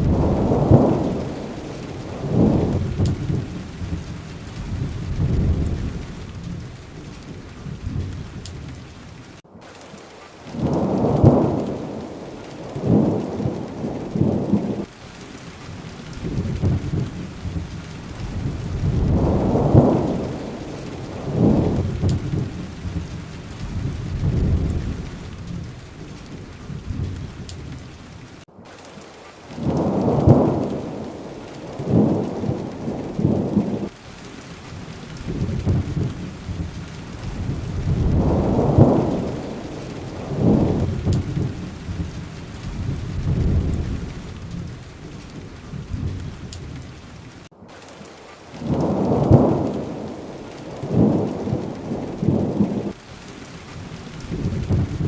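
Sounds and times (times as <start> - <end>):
rolling thunder: 0.0 - 9.4, 10.5 - 14.9, 15.6 - 28.4, 29.6 - 34.0, 34.6 - 47.5, 48.6 - 53.0, 53.8 - 55.0
heavy rain hissing: 0.0 - 55.0.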